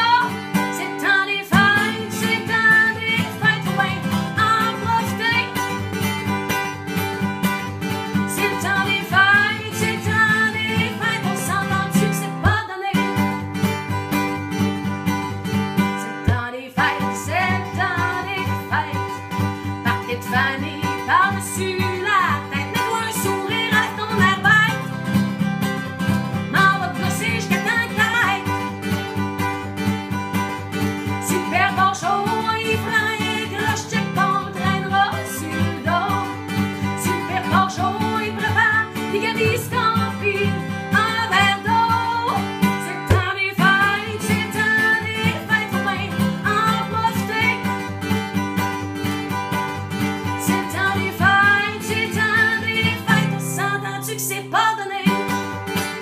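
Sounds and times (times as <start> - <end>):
woman singing: 0.0 - 6.3, 8.1 - 13.5, 15.9 - 25.2, 26.2 - 29.0, 31.0 - 48.2, 50.2 - 56.0
strummed acoustic guitar: 0.0 - 56.0.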